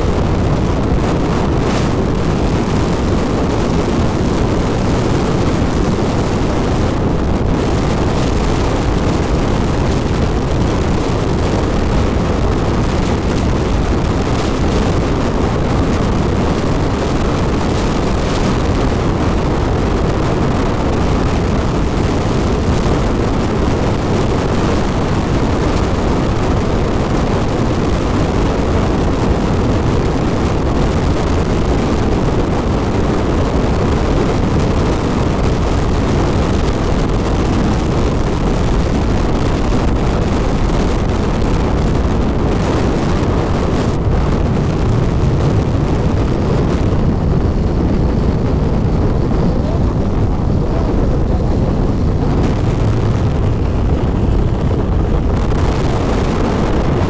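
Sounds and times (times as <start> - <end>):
motorcycle engine drone: 0.0 - 57.0
wind rushing over microphone: 0.0 - 57.0.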